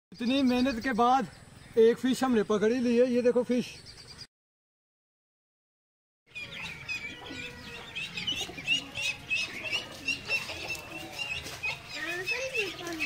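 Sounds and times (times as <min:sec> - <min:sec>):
ducklings peeping: 0:00.2 - 0:04.3, 0:06.3 - 0:13.0.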